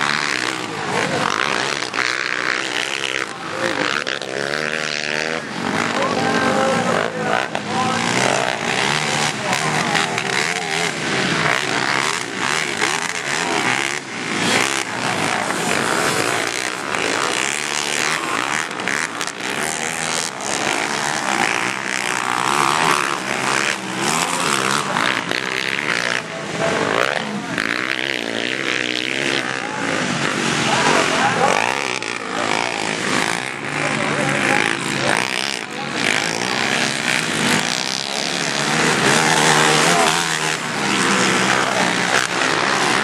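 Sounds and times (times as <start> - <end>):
quad engines revving: 0.0 - 43.0.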